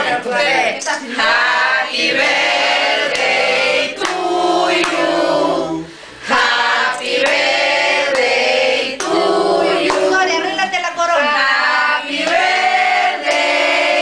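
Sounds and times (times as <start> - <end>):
group singing in unison: 0.0 - 10.4, 11.3 - 14.0.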